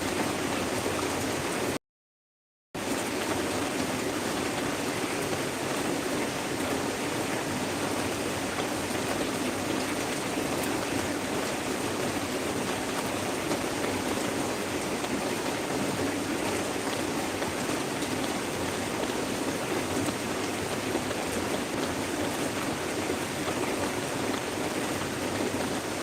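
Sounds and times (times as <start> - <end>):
heavy rain pouring: 0.0 - 1.8, 2.8 - 26.0.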